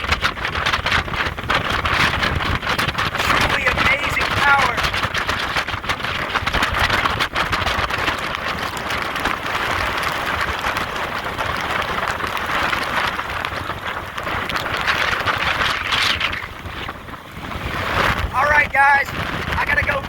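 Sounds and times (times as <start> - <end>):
hurricane wind: 0.0 - 20.0
wind gusts buffeting microphone: 0.0 - 20.0
heavy driving rain: 1.4 - 6.8, 7.8 - 15.6, 16.5 - 20.0.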